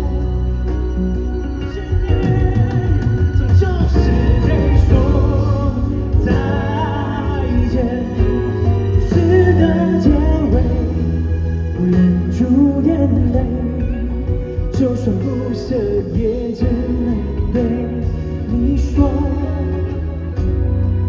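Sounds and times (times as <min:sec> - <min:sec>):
live pop ballad band: 0:00.0 - 0:21.0
person singing: 0:00.0 - 0:21.0
steady bass: 0:00.0 - 0:21.0.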